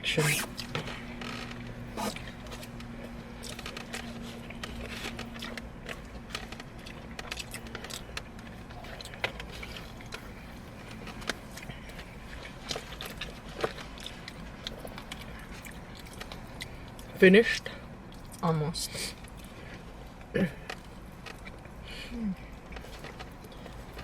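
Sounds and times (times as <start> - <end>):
steady low hum: 0.0 - 24.0
chewing: 0.3 - 18.4, 19.0 - 24.0.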